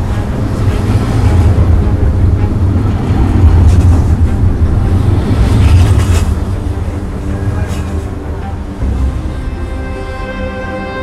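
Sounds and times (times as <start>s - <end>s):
vehicle engine low rumble: 0.0s - 9.6s.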